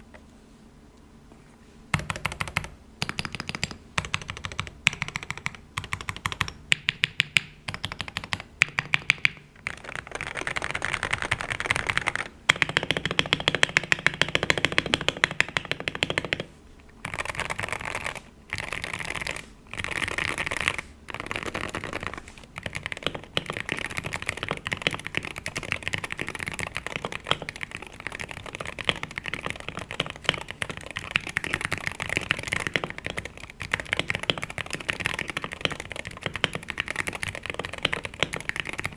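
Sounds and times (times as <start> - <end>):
keyboard typing: 1.9 - 38.9.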